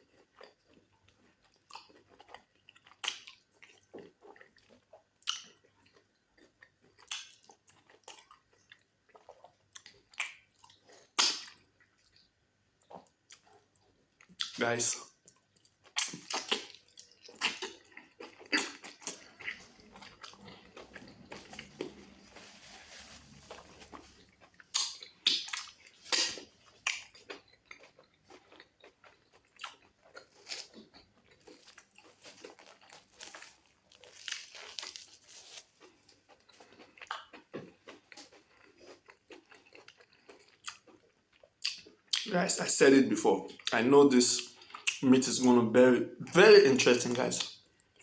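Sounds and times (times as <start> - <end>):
wet chewing and smacking: 0.0 - 42.3, 43.4 - 45.6, 47.1 - 48.0.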